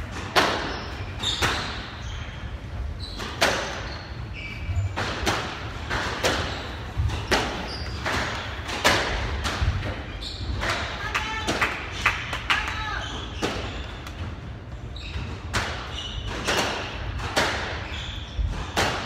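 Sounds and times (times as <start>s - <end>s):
squash ball hitting rackets and walls: 0.0s - 12.5s, 13.1s - 19.0s
shoe squeaks on wooden floor: 0.6s - 8.7s, 9.8s - 11.0s, 12.8s - 18.8s.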